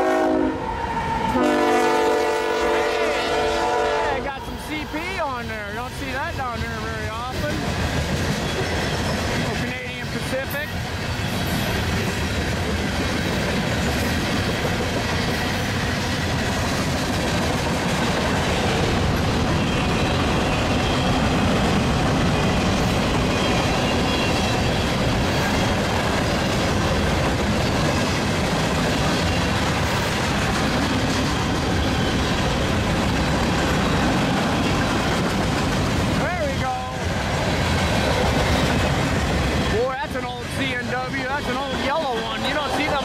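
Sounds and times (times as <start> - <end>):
freight train wheels rumbling: 0.0 - 43.0
high tones from train wheels: 0.0 - 43.0.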